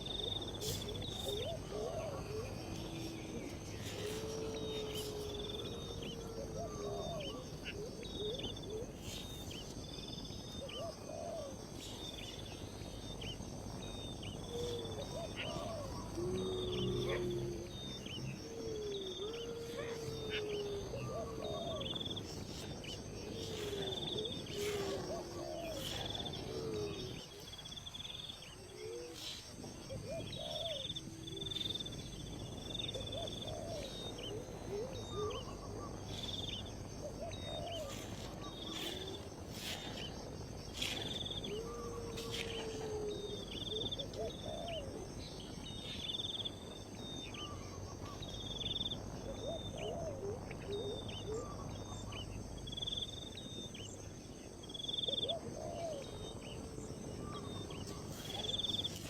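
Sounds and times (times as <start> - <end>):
insects droning: 0.0 - 59.0
lower gliding bird calls: 0.0 - 59.0.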